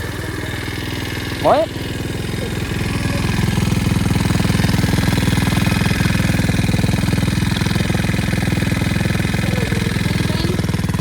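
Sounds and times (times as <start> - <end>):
small motorcycle engine idling: 0.0 - 11.0.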